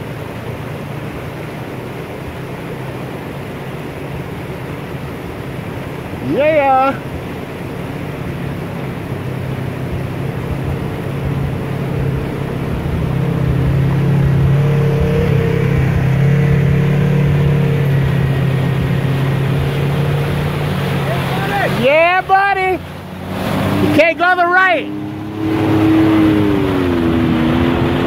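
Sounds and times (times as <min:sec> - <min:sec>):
engine running: 0:00.0 - 0:28.0
rushing water: 0:00.0 - 0:28.0.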